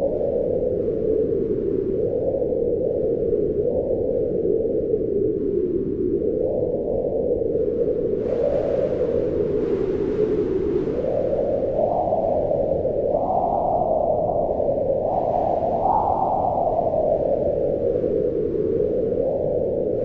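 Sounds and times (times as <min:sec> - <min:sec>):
howling wind: 0:00.0 - 0:20.0.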